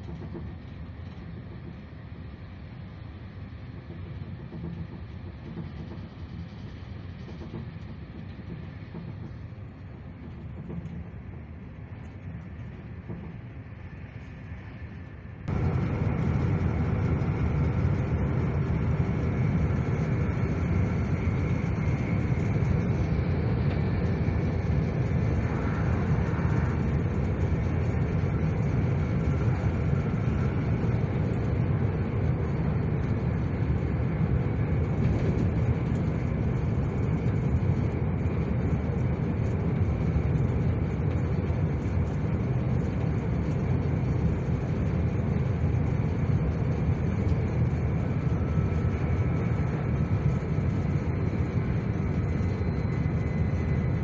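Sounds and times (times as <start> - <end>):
train rumble from inside carriage: 0.0 - 54.0.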